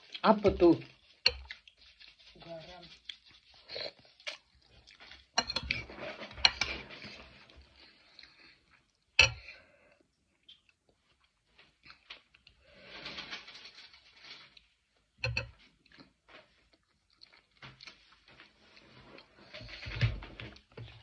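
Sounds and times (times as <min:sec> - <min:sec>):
chewing: 0:00.8 - 0:02.3, 0:02.9 - 0:12.8, 0:15.6 - 0:21.0.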